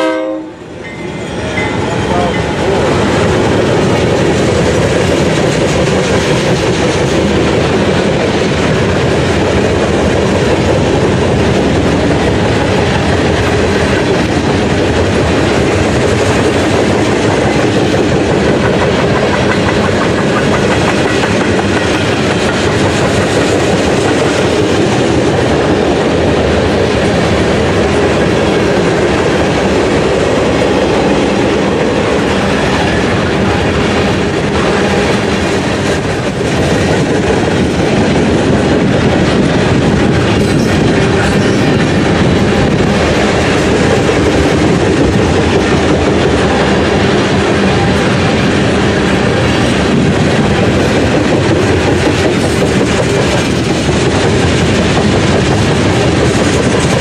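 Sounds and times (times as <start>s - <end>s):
freight train wheels rolling on rail: 0.0s - 57.0s.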